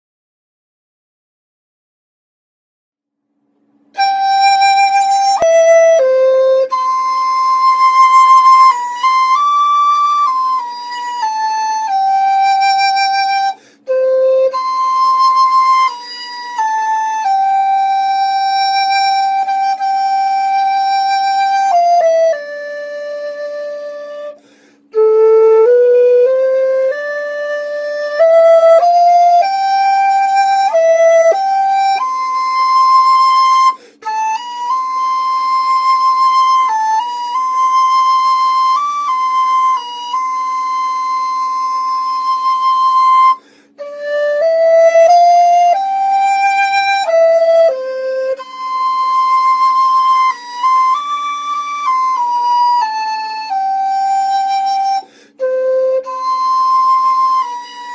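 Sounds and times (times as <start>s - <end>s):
soft sustained background: 3.2s - 57.9s
flute-like melody: 3.7s - 57.9s.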